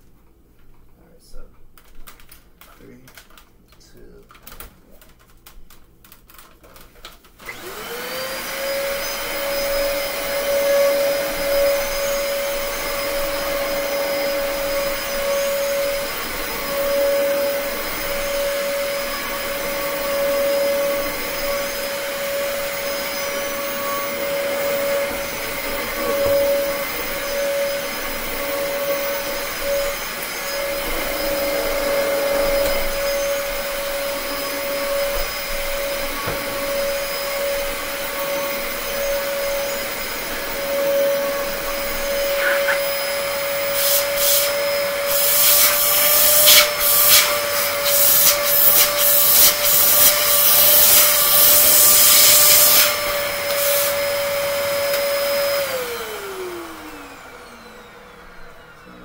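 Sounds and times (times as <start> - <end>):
vacuum cleaner motor whine: 6.7 - 59.0.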